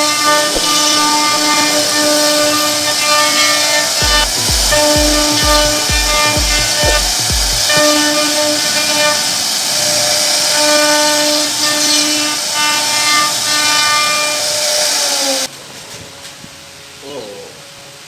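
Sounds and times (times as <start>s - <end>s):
bit cutting wood hiss: 0.0s - 15.5s
router spindle whining: 0.0s - 15.5s.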